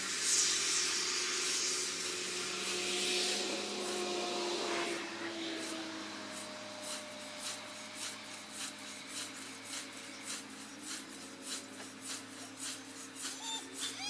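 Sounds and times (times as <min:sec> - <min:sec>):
low hum: 0:00.0 - 0:14.0
scythe swishing through grass: 0:00.0 - 0:14.0.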